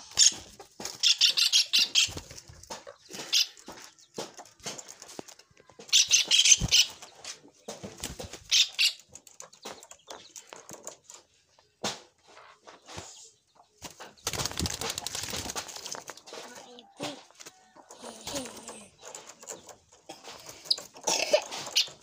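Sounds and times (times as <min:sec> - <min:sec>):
birds flapping wings in cage: 0:00.1 - 0:11.2, 0:13.8 - 0:22.0.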